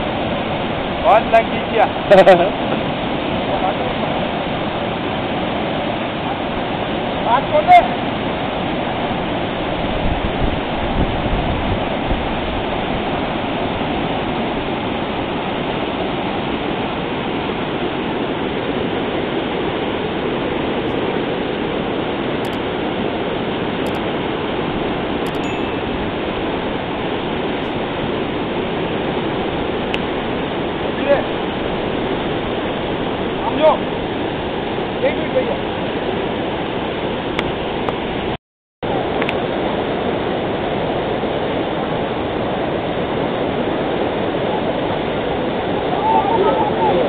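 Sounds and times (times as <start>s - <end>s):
river rapids roaring: 0.0s - 10.0s, 11.8s - 38.2s, 38.9s - 47.0s.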